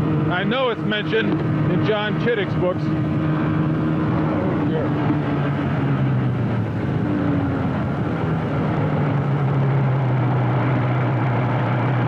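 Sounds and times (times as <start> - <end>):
motorcycle engine running: 0.0 - 12.0
road and wind rush: 0.0 - 12.0.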